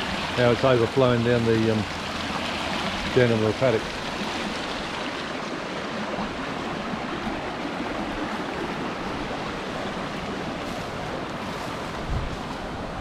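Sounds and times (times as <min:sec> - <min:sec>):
water running down a spillway: 0:00.0 - 0:13.0.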